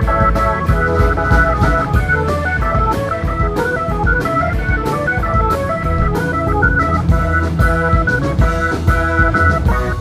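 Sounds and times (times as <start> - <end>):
live band with organ: 0.0 - 10.0.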